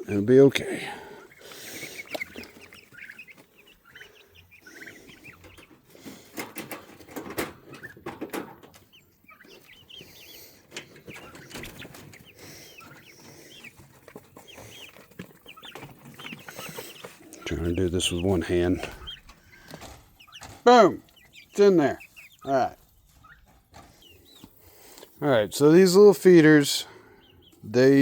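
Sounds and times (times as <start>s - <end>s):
baby chicks peeping: 0.0s - 28.0s.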